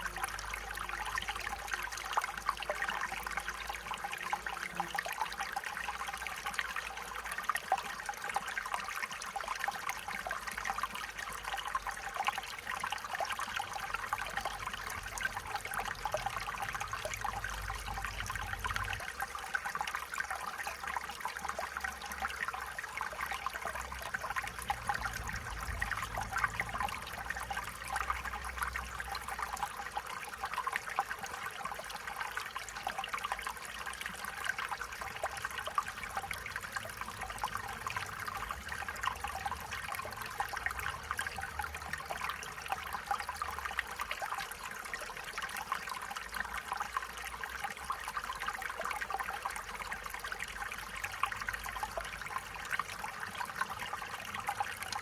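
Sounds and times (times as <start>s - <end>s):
stream water over stones: 0.0s - 55.0s.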